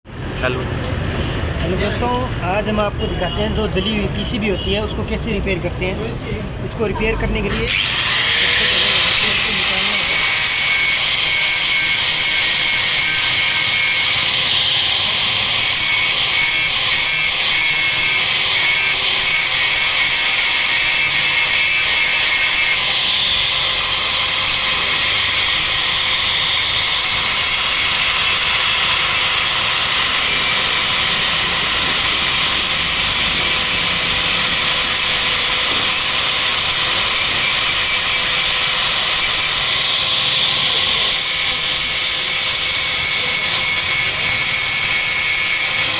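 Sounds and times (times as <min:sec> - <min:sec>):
rotary tool grinding: 0:00.9 - 0:02.3, 0:07.4 - 0:45.9.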